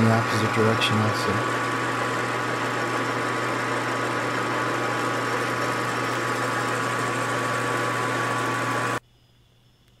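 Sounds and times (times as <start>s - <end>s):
lathe motor whirring: 0.0s - 9.0s
thin steady whine: 0.0s - 10.0s.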